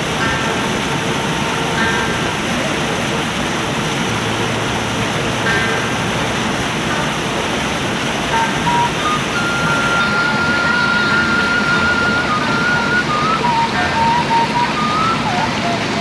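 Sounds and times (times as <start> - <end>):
water rushing in a ditch: 0.0 - 16.0.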